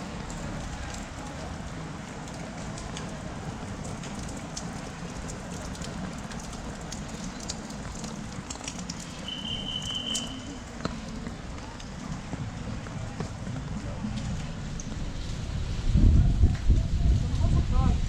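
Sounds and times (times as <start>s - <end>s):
raindrops ticking on surfaces: 0.0s - 15.8s
steady rainfall: 0.0s - 18.0s.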